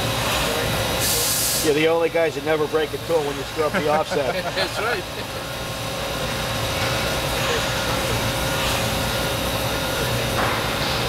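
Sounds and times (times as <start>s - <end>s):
machine hum with whine: 0.0s - 11.0s.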